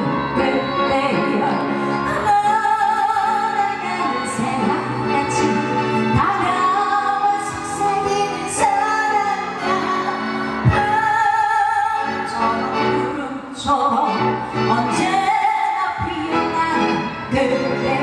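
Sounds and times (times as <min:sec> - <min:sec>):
pop ballad: 0:00.0 - 0:18.0
woman singing: 0:00.0 - 0:18.0.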